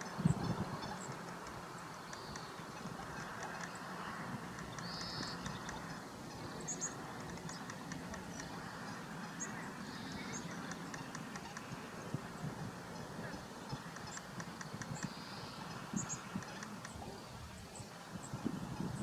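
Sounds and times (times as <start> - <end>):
steady low water rush: 0.0 - 19.0.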